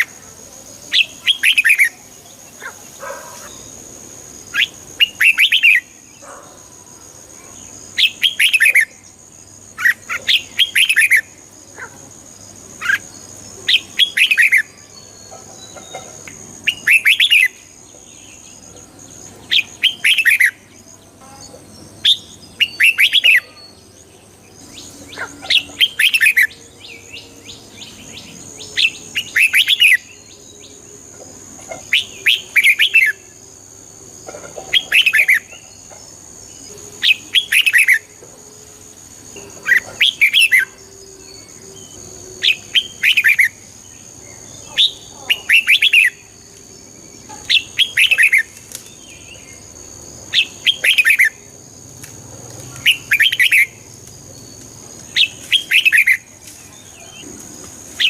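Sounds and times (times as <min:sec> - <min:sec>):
bird singing: 0:00.0 - 0:51.7, 0:52.3 - 0:58.0.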